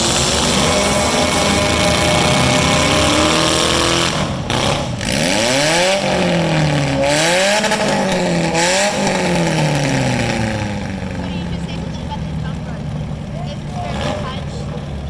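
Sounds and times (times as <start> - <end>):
car engines revving: 0.0 - 15.0
noisy roar bursts: 0.0 - 15.0.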